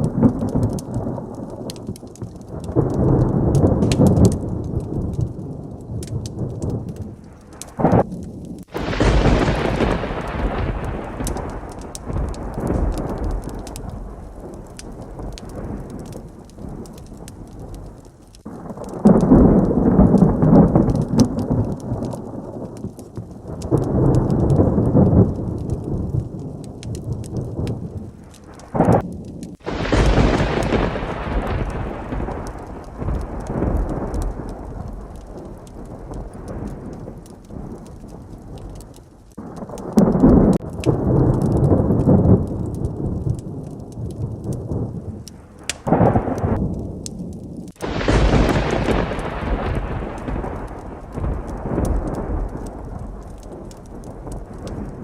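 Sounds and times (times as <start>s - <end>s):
heavy rain: 0.0s - 55.0s
sharp thunderclap: 0.0s - 55.0s
thunder rumbling: 0.0s - 55.0s.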